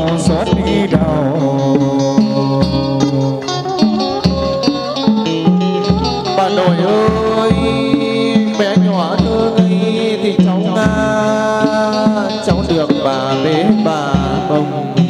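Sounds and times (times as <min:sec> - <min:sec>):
bass line: 0:00.0 - 0:15.0
drum kit beat: 0:00.0 - 0:15.0
monochord playing sliding melody: 0:00.0 - 0:15.0.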